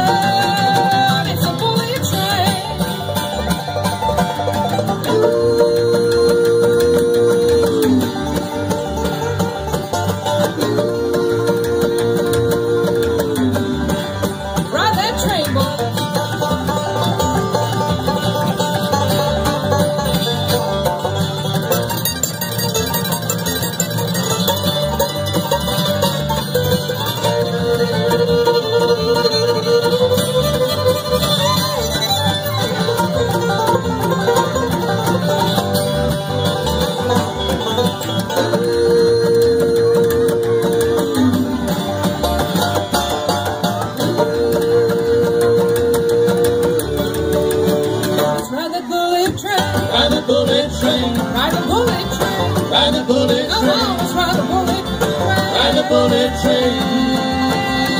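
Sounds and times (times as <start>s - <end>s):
acoustic guitar: 0.0s - 57.9s
banjo: 0.0s - 57.9s
fiddle double-stop notes: 0.0s - 57.9s
mandolin: 0.0s - 57.9s
upright bass: 0.0s - 57.9s.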